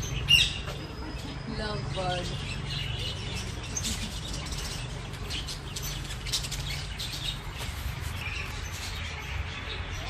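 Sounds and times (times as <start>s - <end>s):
birds chattering: 0.0s - 10.0s.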